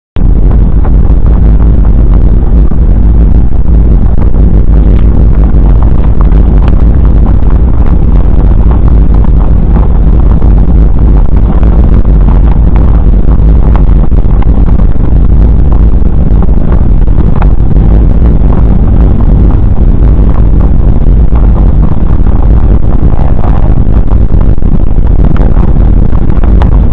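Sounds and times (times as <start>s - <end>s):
airliner cabin engine rumble: 0.1s - 26.9s.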